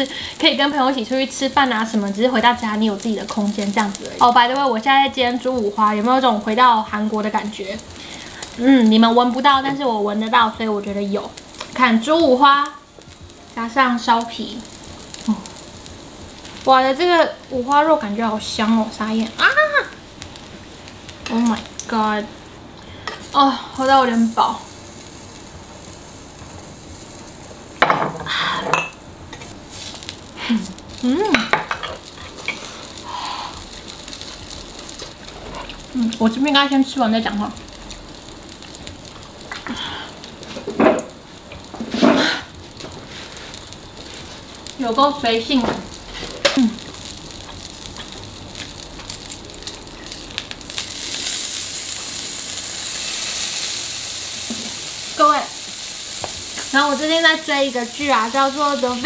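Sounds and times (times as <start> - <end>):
meat and vegetables sizzling: 0.0 - 59.0.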